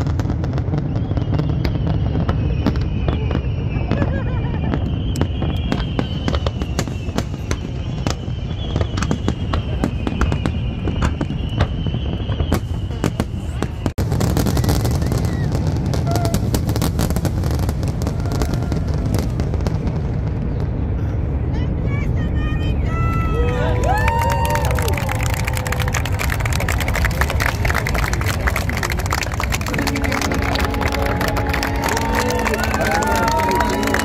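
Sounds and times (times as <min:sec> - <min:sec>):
fireworks banging and crackling: 0:00.0 - 0:34.0.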